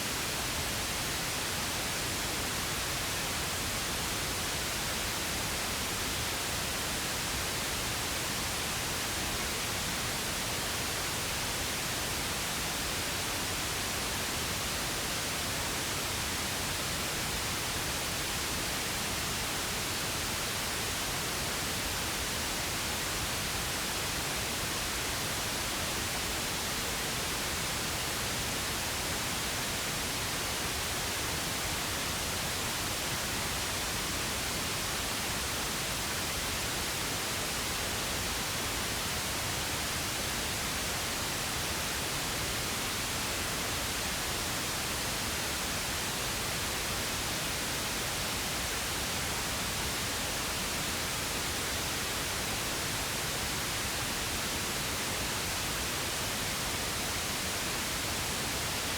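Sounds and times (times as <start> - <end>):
pink noise hiss: 0.0 - 58.9.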